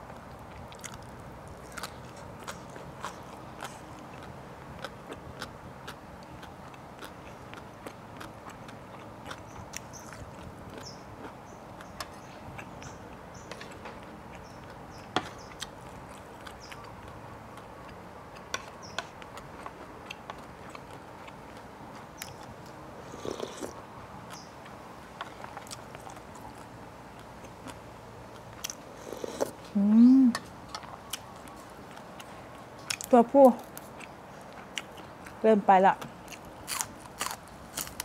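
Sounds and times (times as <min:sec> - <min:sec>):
chewing and mouth sounds: 0:00.2 - 0:35.4, 0:36.0 - 0:38.0.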